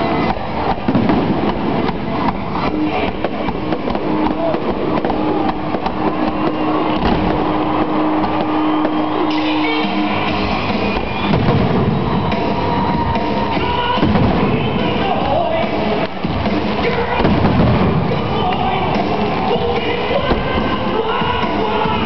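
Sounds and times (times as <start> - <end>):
fireworks bangs and crackle: 0.0 - 22.0
loud rock music: 0.0 - 22.0.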